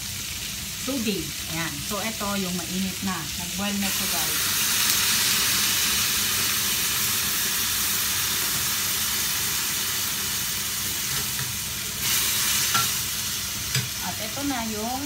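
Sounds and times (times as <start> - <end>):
wok sizzling hiss: 0.0 - 15.0.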